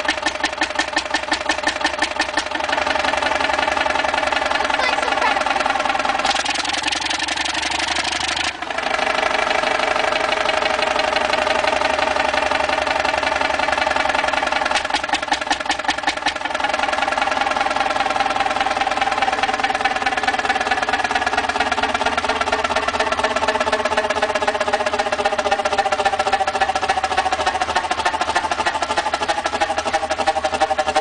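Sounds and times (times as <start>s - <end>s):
engine knocking clatter: 0.0s - 31.0s.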